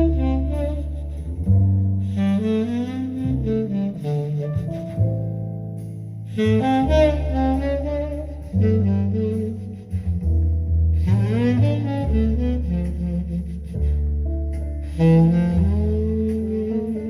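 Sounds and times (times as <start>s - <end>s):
bass line: 0.0s - 17.0s
tenor saxophone jazz melody: 0.0s - 17.0s.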